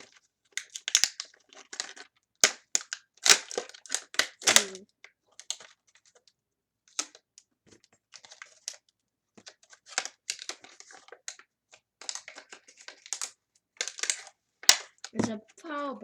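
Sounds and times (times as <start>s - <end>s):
packaging clicks and crinkly rustles: 0.0s - 15.9s.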